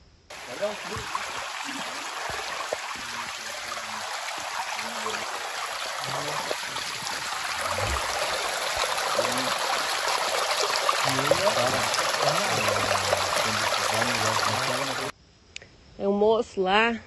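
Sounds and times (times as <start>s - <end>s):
water rushing over rocks: 0.3s - 15.1s.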